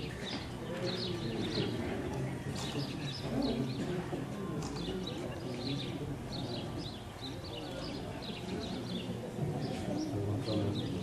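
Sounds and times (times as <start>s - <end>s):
birds chirping: 0.0s - 4.1s, 4.7s - 11.0s
murmur of voices: 0.0s - 11.0s.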